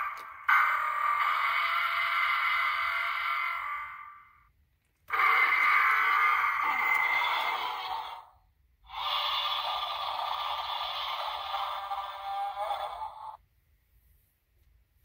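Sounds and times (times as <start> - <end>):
toy electronic roar: 0.0 - 13.4.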